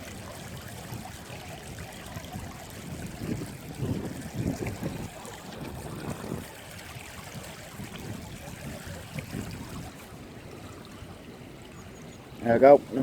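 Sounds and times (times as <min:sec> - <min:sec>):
shallow river running: 0:00.0 - 0:13.0
wind buffeting microphone: 0:00.0 - 0:13.0.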